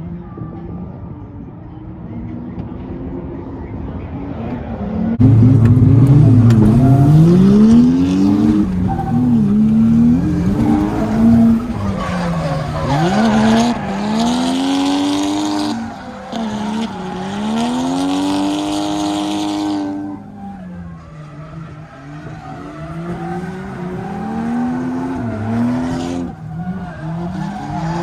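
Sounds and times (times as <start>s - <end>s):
car engine revving: 5.2s - 28.0s
tyres squealing: 5.2s - 28.0s.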